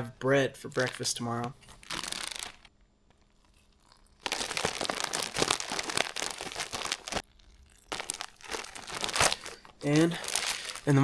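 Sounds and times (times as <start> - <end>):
plastic packaging crinkling: 0.7 - 2.7, 3.4 - 11.0.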